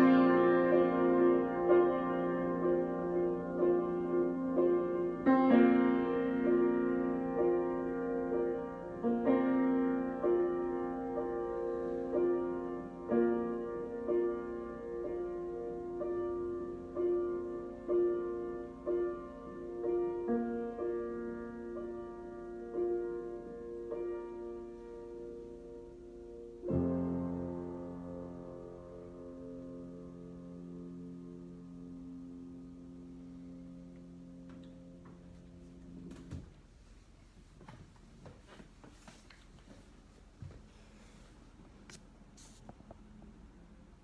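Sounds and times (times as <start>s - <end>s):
solo piano improvisation: 0.0s - 36.7s.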